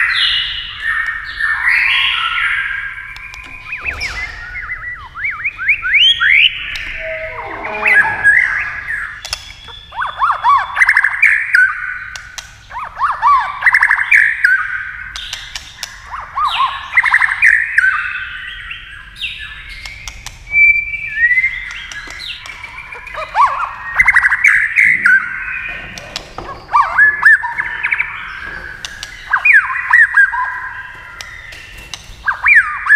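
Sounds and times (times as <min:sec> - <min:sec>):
bird singing whistles and trills: 0:00.0 - 0:32.9.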